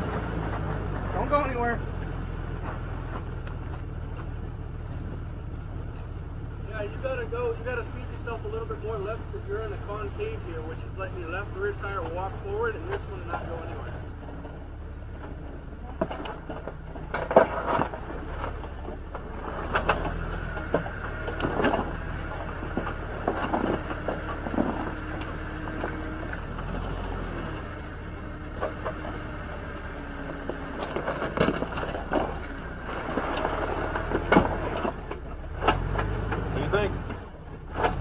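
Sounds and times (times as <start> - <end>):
engine running low: 0.0 - 38.0
tires knocking on stone: 0.0 - 38.0.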